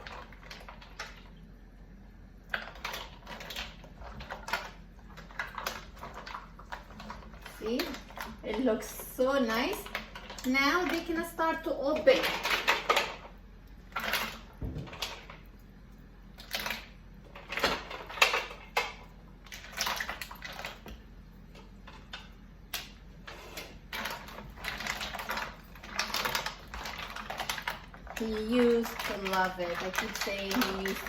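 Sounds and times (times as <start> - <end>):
mussel shells clattering in a pot: 2.5 - 15.5, 16.3 - 23.0, 23.6 - 31.0.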